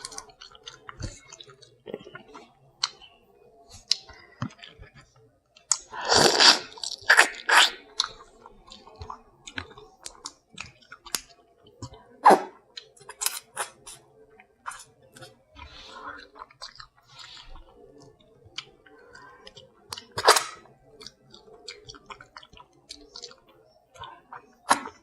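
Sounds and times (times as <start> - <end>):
crab shell crunching and chewing: 0.0 - 3.1, 3.7 - 25.0.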